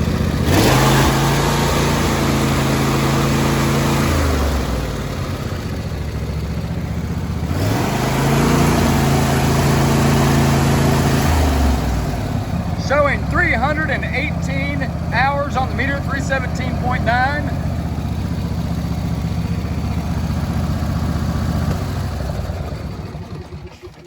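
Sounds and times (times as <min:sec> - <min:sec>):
lawn tractor engine revving: 0:00.0 - 0:24.0.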